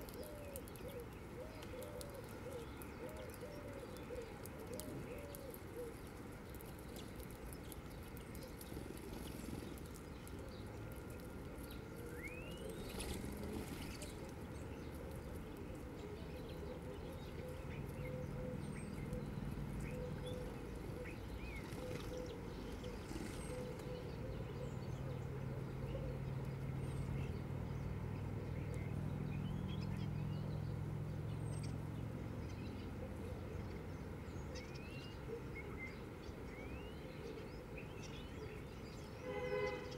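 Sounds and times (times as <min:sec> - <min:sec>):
low steady hum: 0:00.0 - 0:39.9
small birds chirping: 0:00.0 - 0:39.9.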